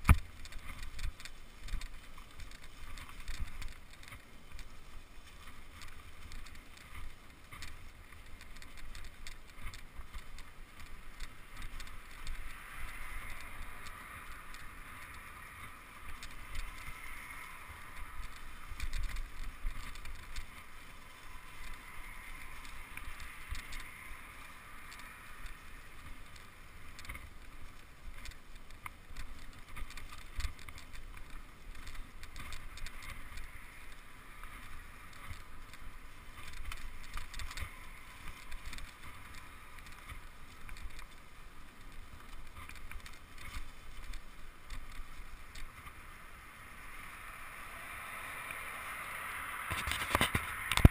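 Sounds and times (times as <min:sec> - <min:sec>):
bike tyres on dirt trail: 0:00.0 - 0:50.9
small rattles and clicks: 0:00.0 - 0:50.9
wind rumble on microphone: 0:00.0 - 0:50.9.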